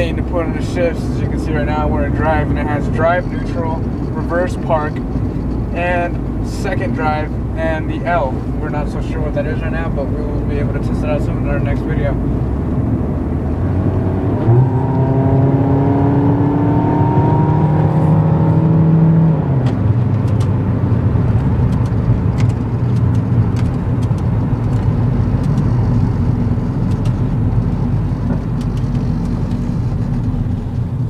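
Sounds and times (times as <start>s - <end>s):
car engine while driving: 0.0s - 31.0s
tyre road noise: 0.0s - 31.0s.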